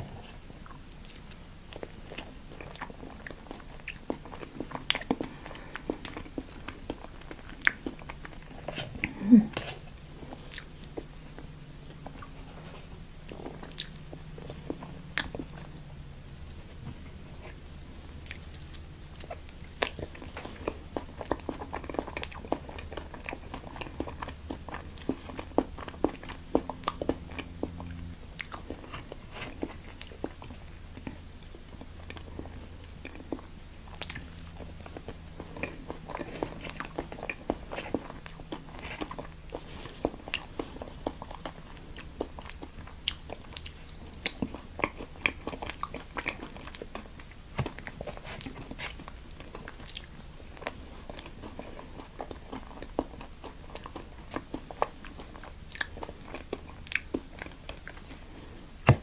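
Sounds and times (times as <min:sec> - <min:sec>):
chewing crunchy food: 0:00.0 - 0:59.0.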